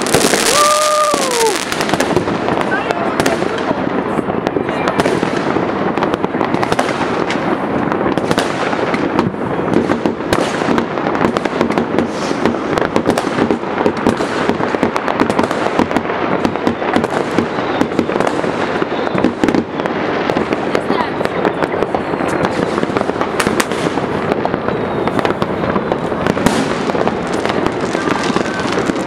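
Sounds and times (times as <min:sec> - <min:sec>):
fireworks crackling and banging: 0:00.0 - 0:29.0.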